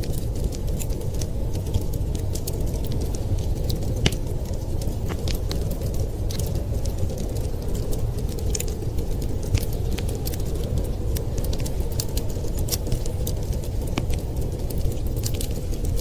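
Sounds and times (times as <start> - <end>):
blizzard wind rumbling: 0.0 - 16.0
wood fire crackling and popping: 0.0 - 16.0.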